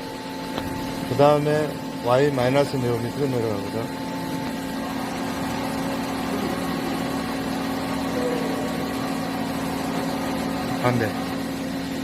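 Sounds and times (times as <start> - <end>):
boring mill machine hum: 0.0 - 12.0.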